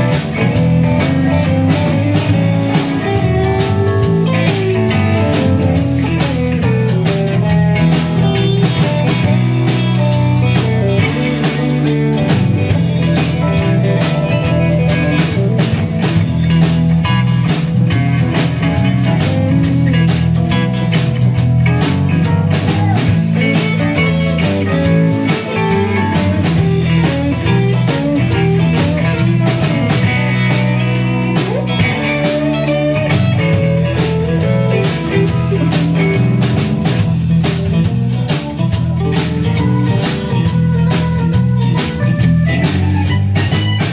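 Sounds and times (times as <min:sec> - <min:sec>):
live rock band playing blues: 0:00.0 - 0:43.9.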